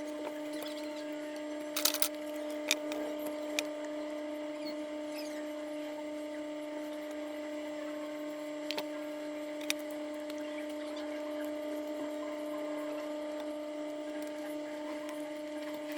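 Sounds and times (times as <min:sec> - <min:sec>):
electrical hum: 0:00.0 - 0:15.9.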